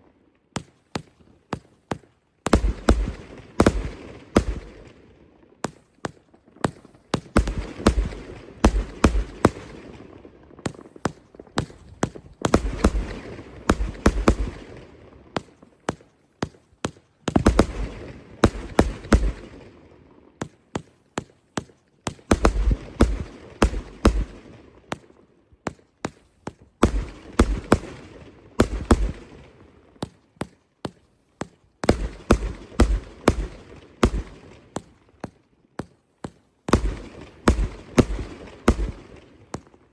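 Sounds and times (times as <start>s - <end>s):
fireworks bangs with crackling hiss: 0.6s - 5.0s, 5.6s - 19.8s, 20.4s - 39.8s.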